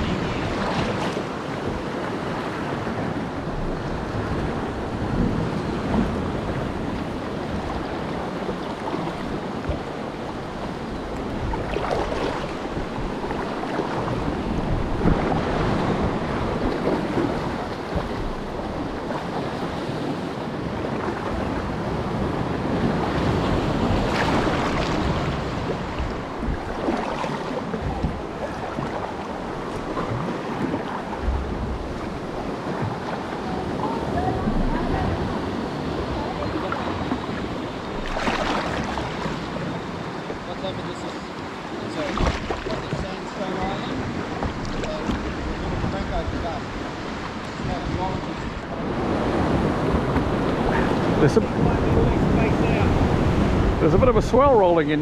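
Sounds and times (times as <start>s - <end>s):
wind buffeting microphone: 0.0s - 40.5s, 41.8s - 55.0s
ocean swell washing in: 0.0s - 55.0s.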